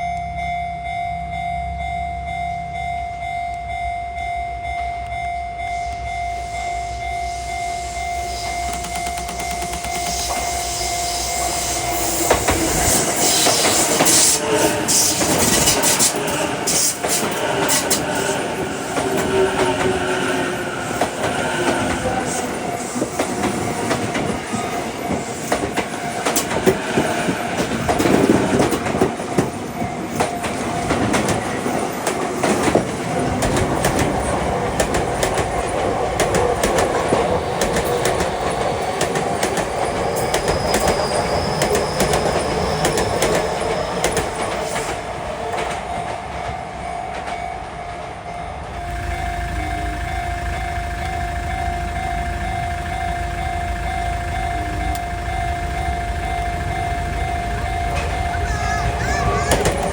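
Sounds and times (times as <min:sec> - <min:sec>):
electric train passing: 0:00.0 - 0:59.9
wheels clacking over rail joints: 0:08.7 - 0:59.9.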